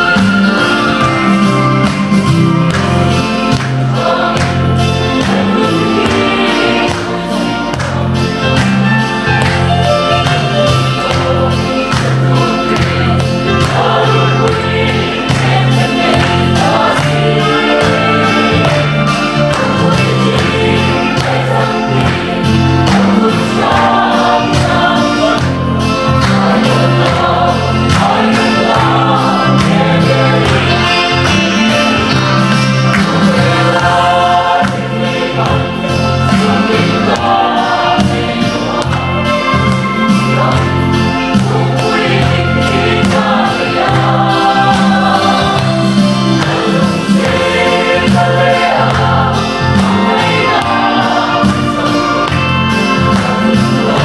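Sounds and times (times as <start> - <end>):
mixed choir singing in harmony: 0.0 - 54.0.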